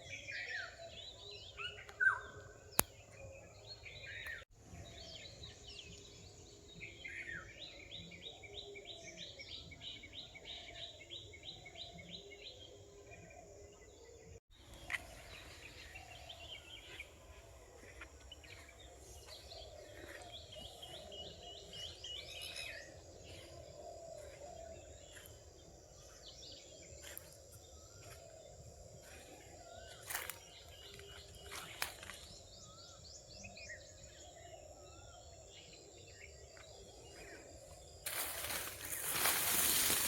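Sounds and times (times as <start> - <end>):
forest birds calling: 0.0 - 40.0.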